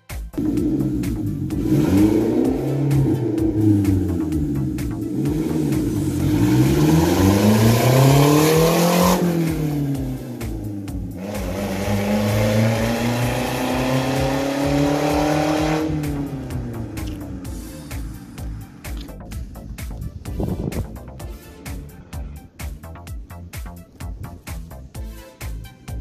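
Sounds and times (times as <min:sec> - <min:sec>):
engine revving: 0:00.4 - 0:23.1.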